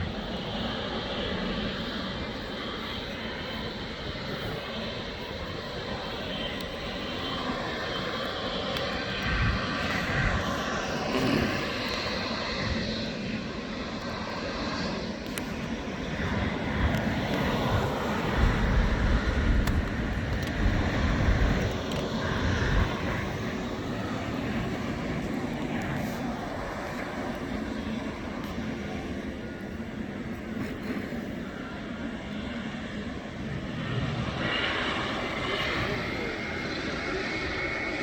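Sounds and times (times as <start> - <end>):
jet airliner engines passing: 0.0 - 38.0
wind gusting on microphone: 0.0 - 38.0.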